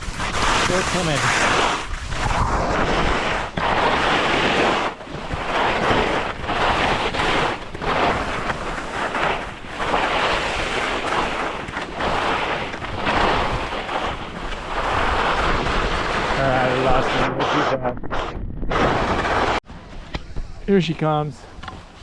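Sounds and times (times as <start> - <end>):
skis scraping over snow: 0.0 - 19.6
wind on microphone: 0.0 - 19.6.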